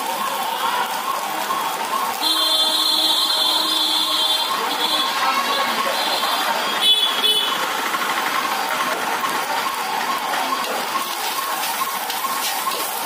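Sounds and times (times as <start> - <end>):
wok burner roaring: 1.0 - 13.0.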